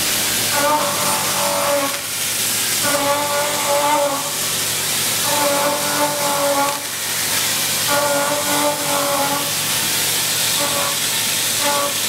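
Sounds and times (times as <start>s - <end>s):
milling cutter whine: 0.0s - 12.0s.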